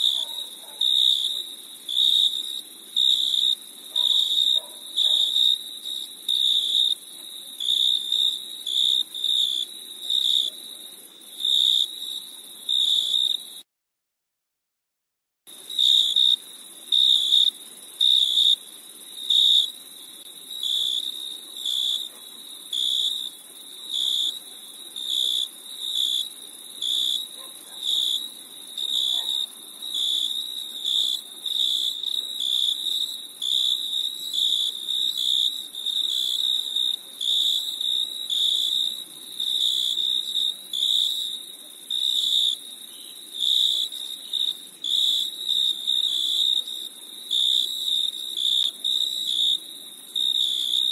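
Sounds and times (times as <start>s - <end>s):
cricket chirping: 0.0s - 13.6s, 15.5s - 50.9s.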